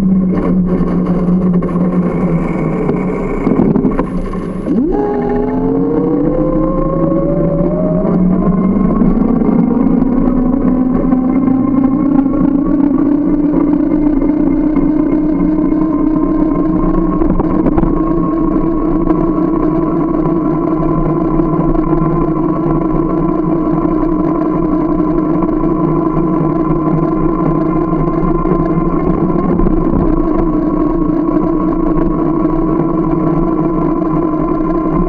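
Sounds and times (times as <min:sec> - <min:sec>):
motor humming: 0:00.0 - 0:35.0.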